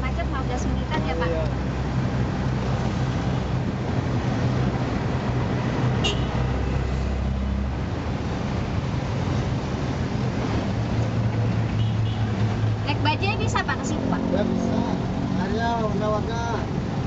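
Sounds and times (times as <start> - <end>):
auto-rickshaw engine running: 0.0 - 17.0
road noise: 0.0 - 17.0.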